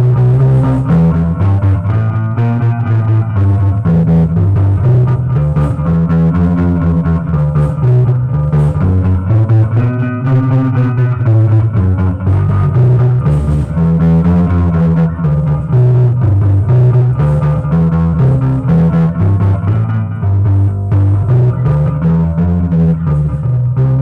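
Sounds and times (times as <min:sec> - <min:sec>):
blues guitar playing: 0:00.0 - 0:24.0.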